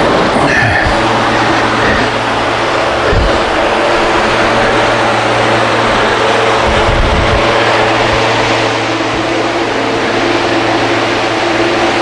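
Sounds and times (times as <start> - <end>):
loud machine rushing noise: 0.0 - 12.0
steady motor hum: 0.0 - 12.0.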